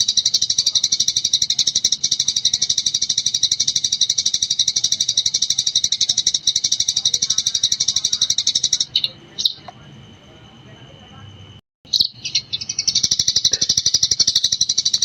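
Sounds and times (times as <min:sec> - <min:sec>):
sparrow chattering: 0:00.0 - 0:09.8, 0:11.9 - 0:15.0.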